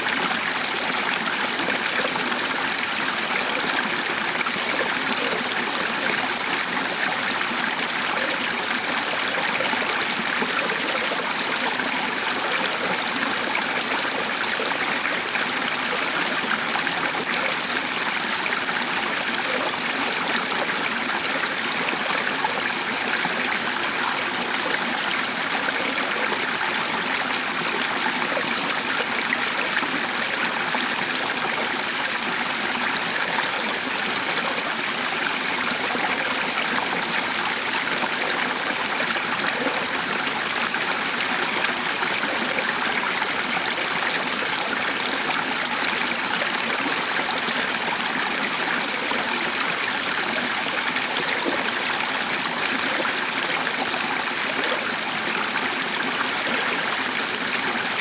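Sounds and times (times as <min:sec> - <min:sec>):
shallow stream flowing: 0:00.0 - 0:58.0.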